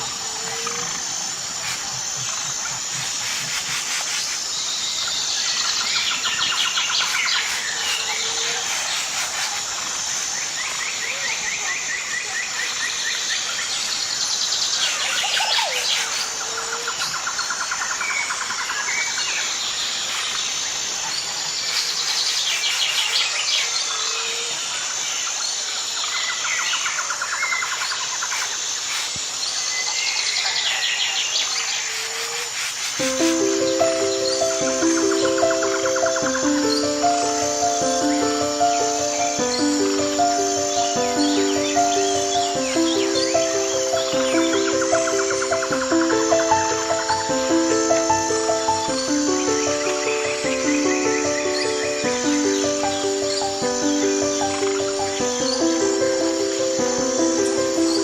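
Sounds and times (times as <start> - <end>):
birds chirping and trilling: 0.0 - 58.0
insects droning: 0.0 - 58.0.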